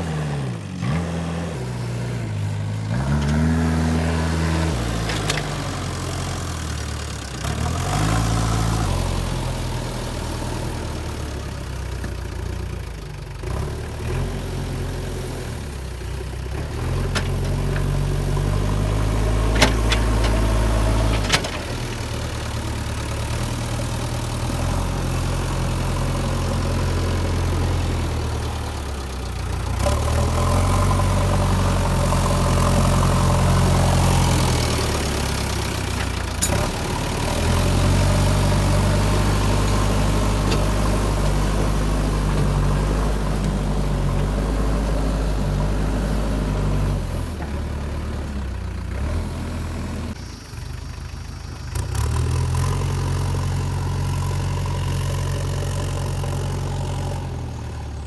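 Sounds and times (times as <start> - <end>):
backhoe diesel engine revving: 0.0 - 58.0.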